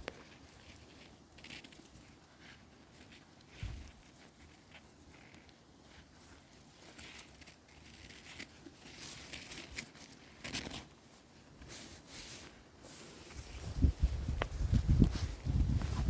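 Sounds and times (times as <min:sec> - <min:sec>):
footsteps through forest undergrowth: 0:00.0 - 0:16.0.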